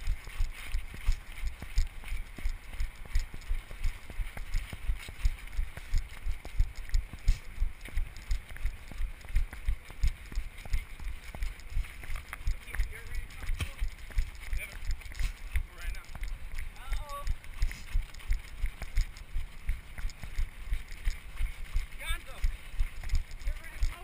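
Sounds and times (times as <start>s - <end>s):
running footfalls: 0.0s - 24.0s.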